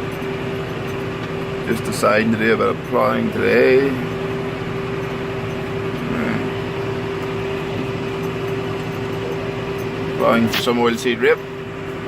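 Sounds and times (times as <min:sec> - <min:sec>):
steady high hum: 0:00.0 - 0:12.0
tractor diesel engine running: 0:00.0 - 0:12.0.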